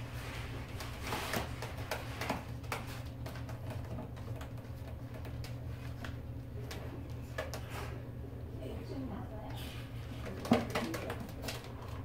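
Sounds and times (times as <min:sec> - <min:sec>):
claws scrabbling on plastic tub: 0:00.3 - 0:08.0, 0:10.0 - 0:12.0.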